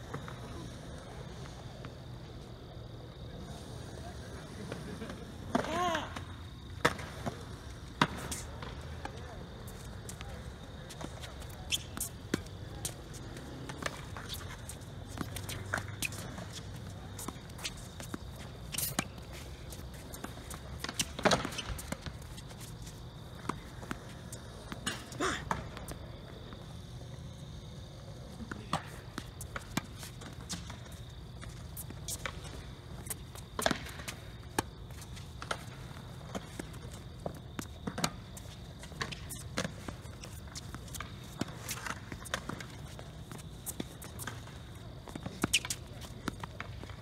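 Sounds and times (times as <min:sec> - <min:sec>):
footsteps on hard court: 0:06.6 - 0:47.0.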